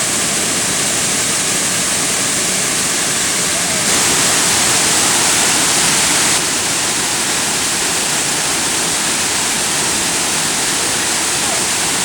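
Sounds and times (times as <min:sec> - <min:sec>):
waterfall crashing: 0:00.0 - 0:12.0.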